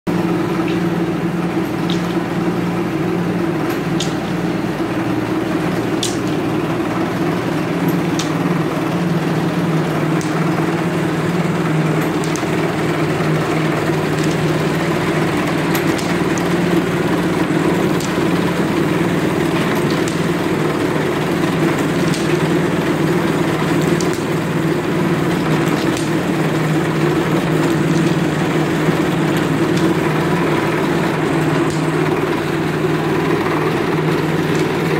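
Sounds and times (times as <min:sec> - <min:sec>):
machine motor running: 0:00.1 - 0:34.9.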